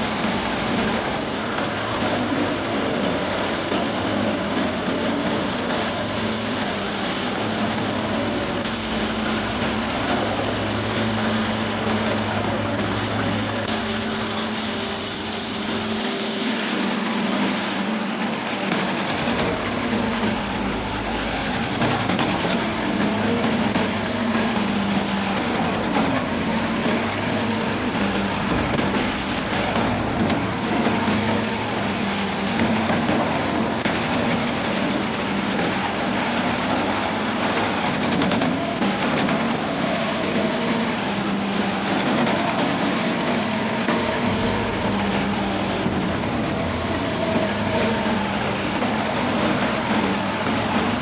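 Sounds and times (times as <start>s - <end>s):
diesel engine drone: 0.0s - 51.0s.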